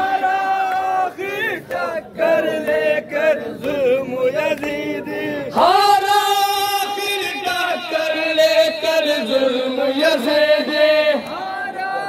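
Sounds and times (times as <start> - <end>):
male voices chanting a lament: 0.0 - 12.0.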